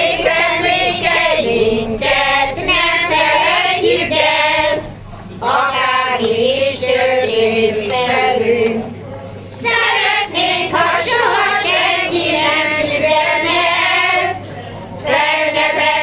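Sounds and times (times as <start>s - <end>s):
women's choir singing folk song: 0.0s - 16.0s.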